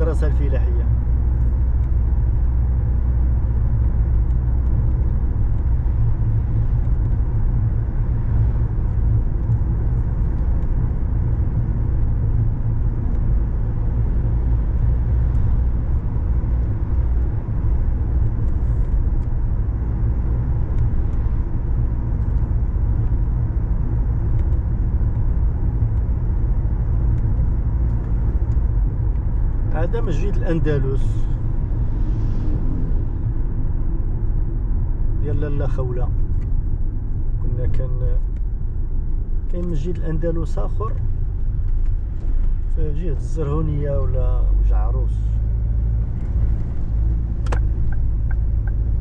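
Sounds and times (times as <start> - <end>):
car engine rumble: 0.0 - 49.0
tyre noise on road: 0.0 - 49.0.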